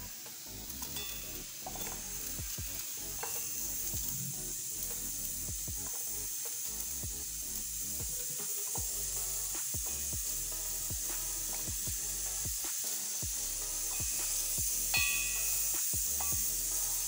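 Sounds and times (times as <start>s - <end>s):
soft background music: 0.0s - 17.0s
steady high hiss: 0.0s - 17.0s.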